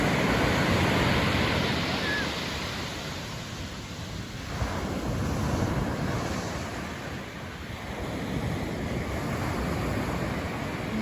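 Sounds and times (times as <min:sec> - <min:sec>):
ocean surf washing onto beach: 0:00.0 - 0:11.0.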